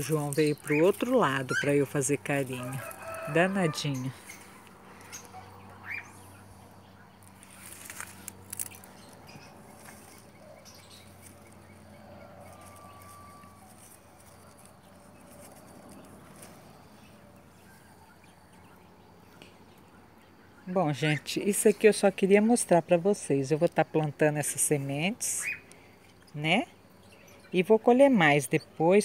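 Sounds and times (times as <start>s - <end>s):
rustles of picking seed pods: 0.0s - 20.0s, 20.6s - 29.0s.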